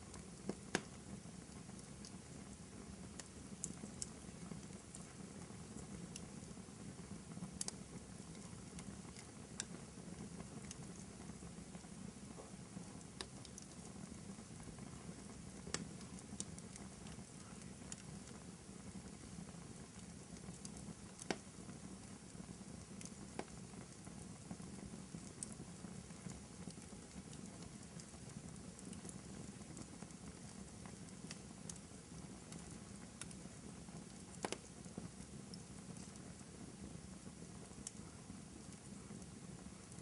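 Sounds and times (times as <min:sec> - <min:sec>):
fire popping: 0:00.0 - 0:40.0
wood fire crackling: 0:00.0 - 0:40.0.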